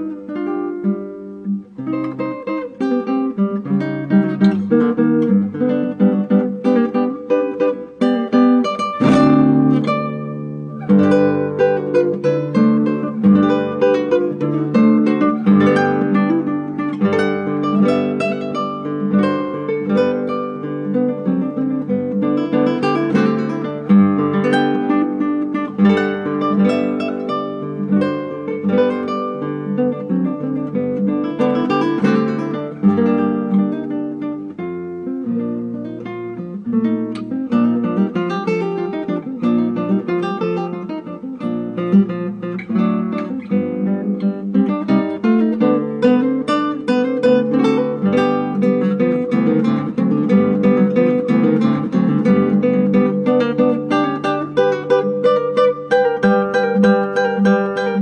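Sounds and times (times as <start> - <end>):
flamenco acoustic guitar: 0.0 - 58.0.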